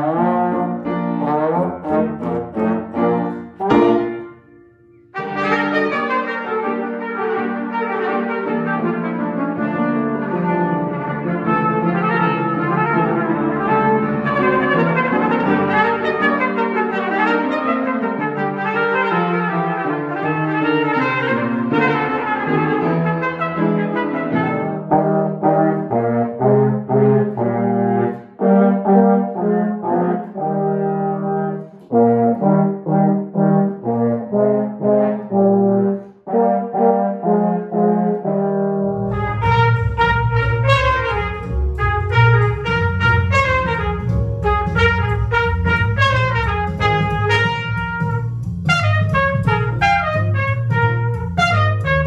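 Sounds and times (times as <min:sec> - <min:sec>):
tenor horns duet: 0:00.0 - 0:04.4, 0:11.5 - 0:52.0
low accompaniment: 0:00.0 - 0:07.5, 0:09.8 - 0:52.0
trumpets playing melody: 0:00.0 - 0:52.0.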